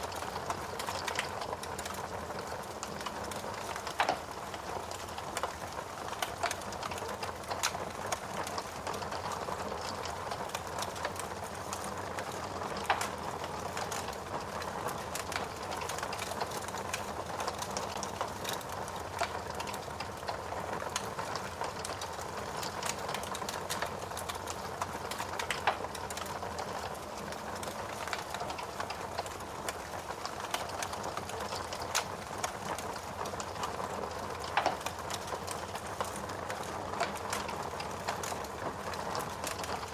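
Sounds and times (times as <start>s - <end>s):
steady rain falling: 0.0s - 39.9s
wood fire crackling and popping: 0.0s - 39.9s.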